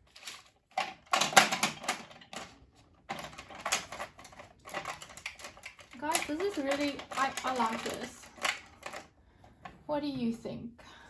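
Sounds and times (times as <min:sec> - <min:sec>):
small metal tools clattering: 0:00.0 - 0:09.1.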